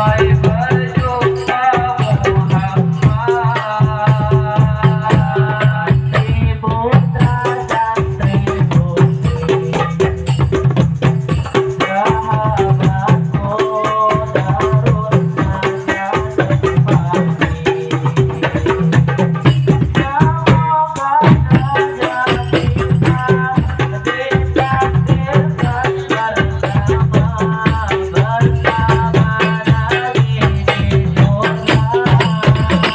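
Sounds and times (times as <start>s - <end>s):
religious music over sound system: 0.0s - 32.9s.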